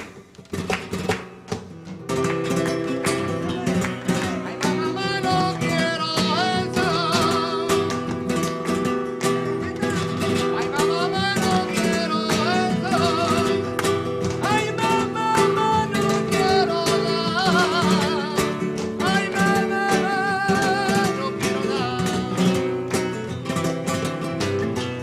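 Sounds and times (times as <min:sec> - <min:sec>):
acoustic guitar: 0:00.0 - 0:25.0.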